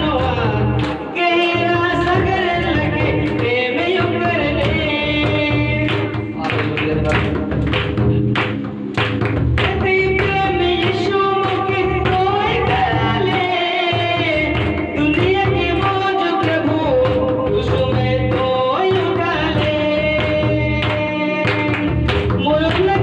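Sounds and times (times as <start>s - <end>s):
man singing into a microphone: 0.0s - 7.2s, 9.8s - 23.0s
music with a steady beat: 0.0s - 23.0s.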